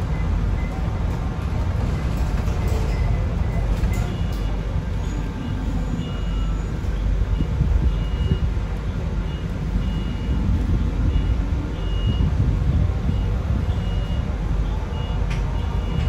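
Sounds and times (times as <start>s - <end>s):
bus road rumble: 0.0s - 16.0s.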